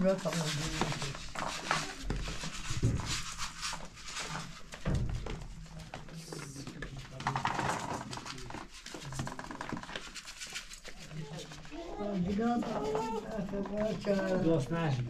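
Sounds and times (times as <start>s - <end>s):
rustling and handling noise: 0.0s - 15.0s.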